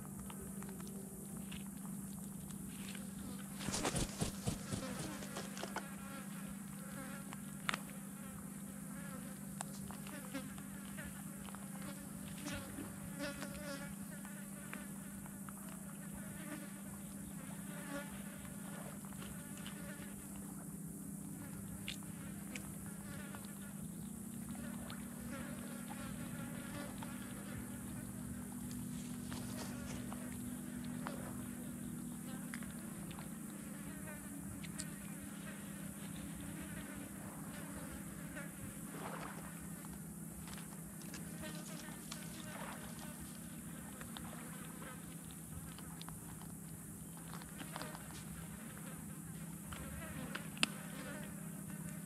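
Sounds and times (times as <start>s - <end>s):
flies buzzing: 0.2s - 46.0s, 47.5s - 52.0s.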